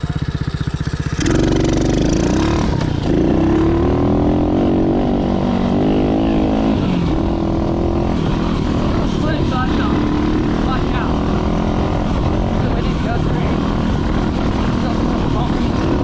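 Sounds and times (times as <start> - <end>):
dirt bike engine accelerating: 0.0 - 16.0.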